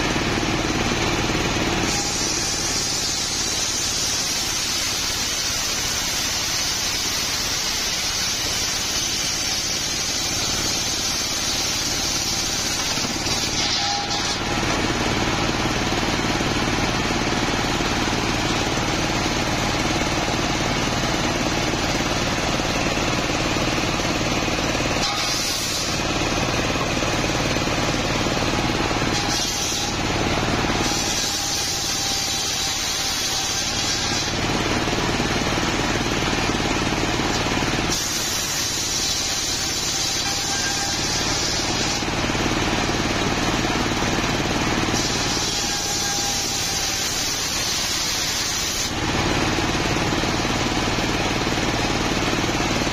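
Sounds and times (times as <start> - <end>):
saw engine droning: 0.0 - 52.9
blade hissing through wood: 1.7 - 42.2, 44.7 - 49.0.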